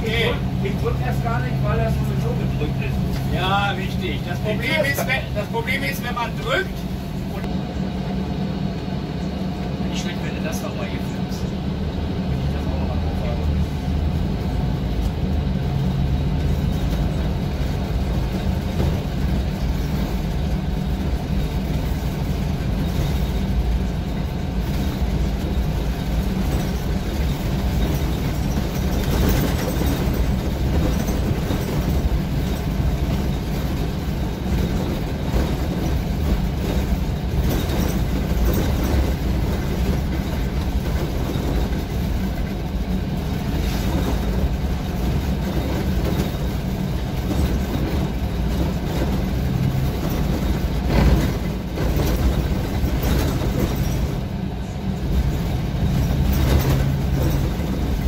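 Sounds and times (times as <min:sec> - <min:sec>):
bus engine and tyre rumble: 0:00.0 - 0:58.0.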